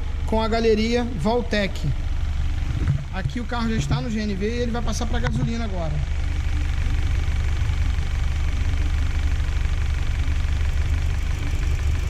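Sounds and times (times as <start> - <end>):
car engine idling: 1.7 - 12.0.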